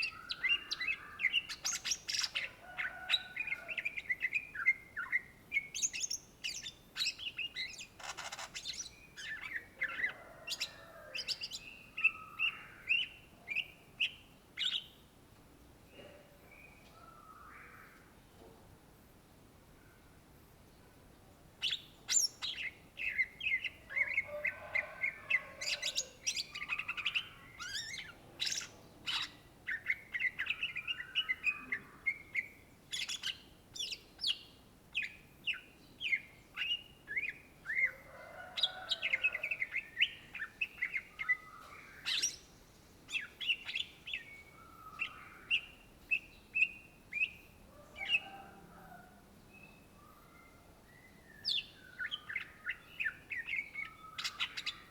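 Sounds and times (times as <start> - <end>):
bird singing varied chirps: 0.0 - 14.9, 21.6 - 38.1, 38.7 - 48.4, 49.6 - 54.9.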